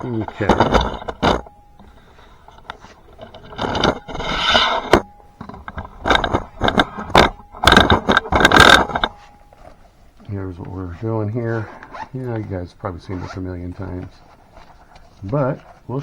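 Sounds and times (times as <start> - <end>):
scraping and rubbing: 0.0 - 16.0.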